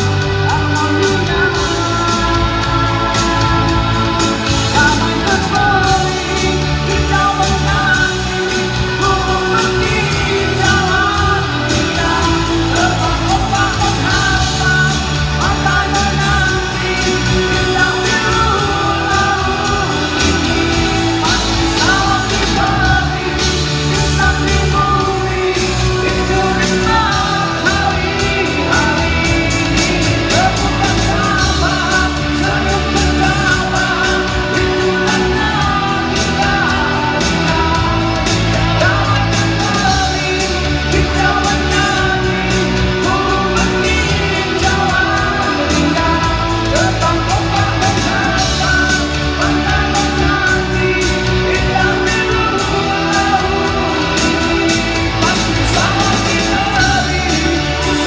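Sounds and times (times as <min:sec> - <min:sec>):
lead singer: 0:00.0 - 0:58.0
live rock band: 0:00.0 - 0:58.0.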